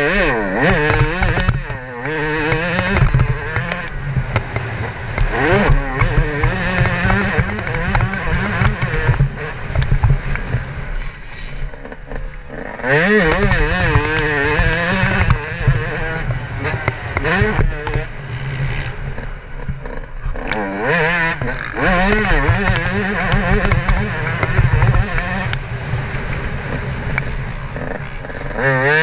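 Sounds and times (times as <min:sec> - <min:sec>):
motocross bike engine revving: 0:00.0 - 0:29.0
rumble and clatter from bike: 0:00.0 - 0:29.0.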